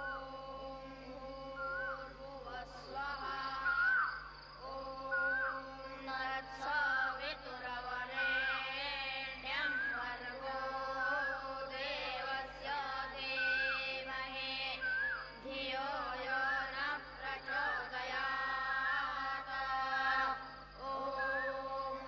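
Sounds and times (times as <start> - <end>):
voices chanting: 0.0 - 22.0.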